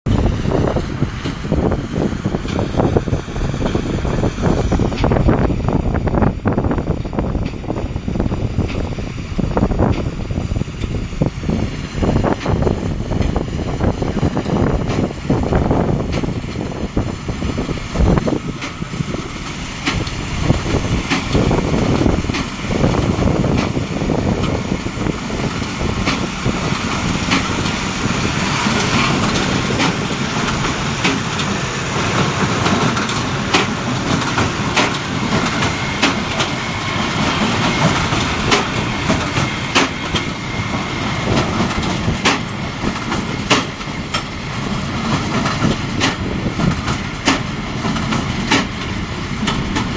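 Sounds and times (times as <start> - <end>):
diesel tractor engine under load: 0.0 - 49.9
baler clatter and clicks: 9.6 - 49.9.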